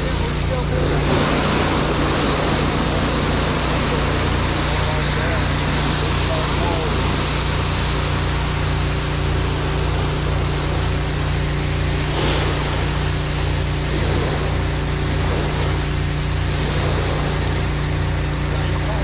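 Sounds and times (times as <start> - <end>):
engine running steadily: 0.0 - 19.0
hose spraying water: 0.0 - 19.0.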